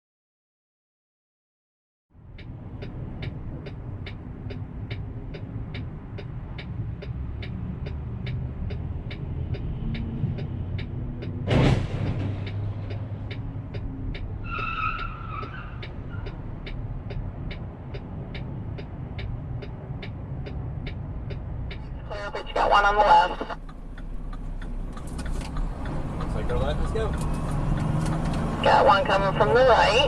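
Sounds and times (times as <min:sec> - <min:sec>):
road and engine rumble: 0:02.1 - 0:30.0.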